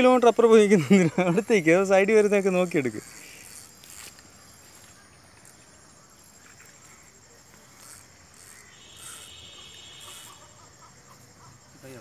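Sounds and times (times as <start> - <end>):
faint insects chirping: 0.0 - 12.0
steady high insect trill: 0.0 - 12.0.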